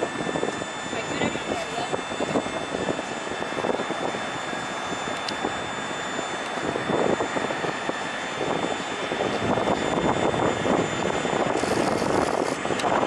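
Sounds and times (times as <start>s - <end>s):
jet engines rushing with whine: 0.0s - 13.0s.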